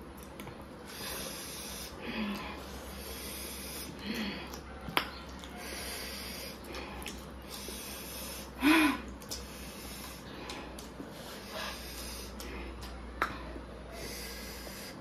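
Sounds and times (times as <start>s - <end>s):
people eating by hand: 0.0s - 15.0s
sniffing and heavy nose breathing: 0.8s - 4.7s, 5.5s - 12.9s, 13.8s - 15.0s.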